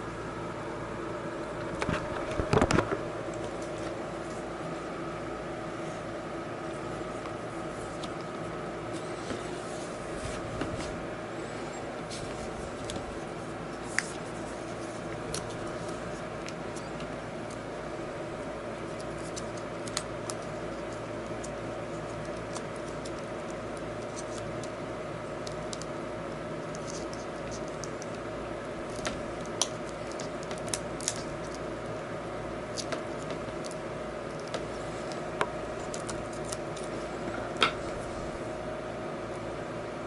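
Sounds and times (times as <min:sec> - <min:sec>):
background hum: 0:00.0 - 0:40.0.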